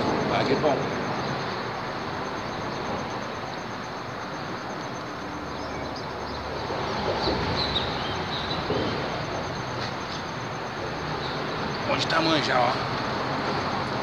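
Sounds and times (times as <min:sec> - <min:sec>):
traffic rumbling on bridge overhead: 0:00.0 - 0:14.0.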